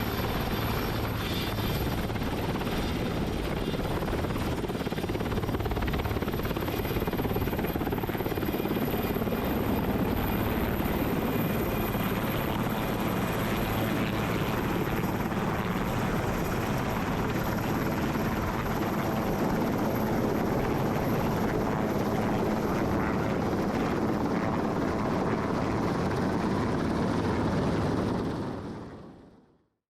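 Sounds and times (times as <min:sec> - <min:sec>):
thin high turbine whine: 0:00.0 - 0:25.2
helicopter rotor noise: 0:00.0 - 0:29.3.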